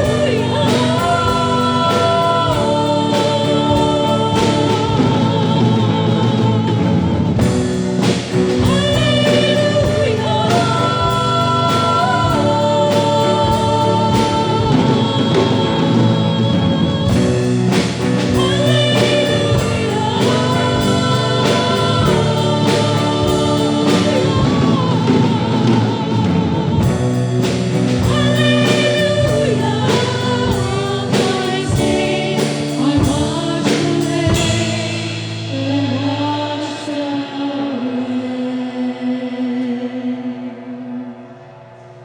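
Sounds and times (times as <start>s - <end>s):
drum hits: 0.0s - 35.6s
people singing: 0.0s - 41.5s.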